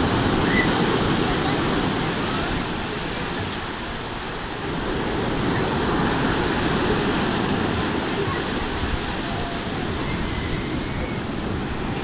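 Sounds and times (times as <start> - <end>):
surf washing over pebble beach: 0.0 - 12.0.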